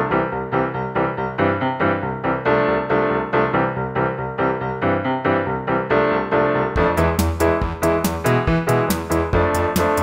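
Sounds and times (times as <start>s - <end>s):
keyboard melody: 0.0s - 10.0s.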